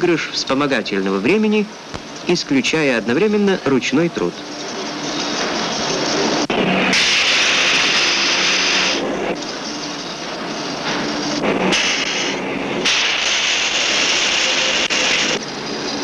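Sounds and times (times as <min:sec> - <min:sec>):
machine drone: 0:00.0 - 0:16.0
metal cutting hiss: 0:00.1 - 0:16.0.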